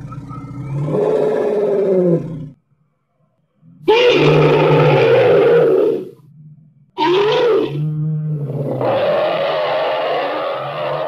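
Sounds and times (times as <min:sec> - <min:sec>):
dinosaur roar: 0:00.0 - 0:02.6, 0:03.8 - 0:11.0.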